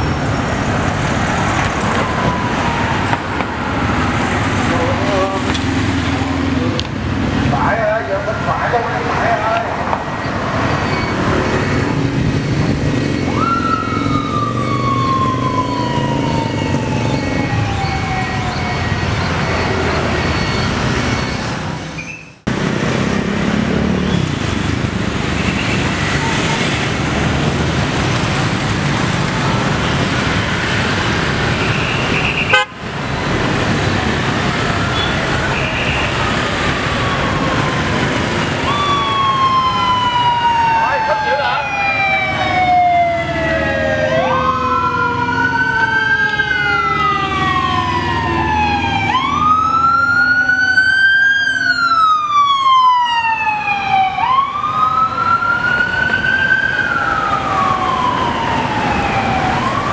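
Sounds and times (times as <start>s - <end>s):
escort sirens: 0.0s - 21.8s, 24.2s - 59.9s
city street traffic: 0.0s - 59.9s.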